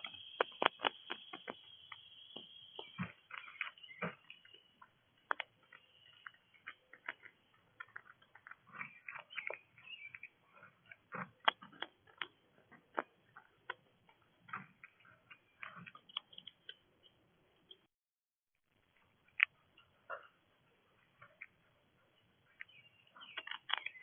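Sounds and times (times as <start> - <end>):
animals pecking at bird feeder: 0.0 - 17.9, 18.8 - 24.0.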